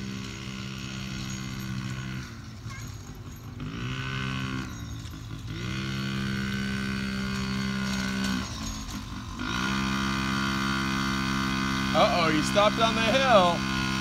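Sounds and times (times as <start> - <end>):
minibike engine revving: 0.0 - 14.0.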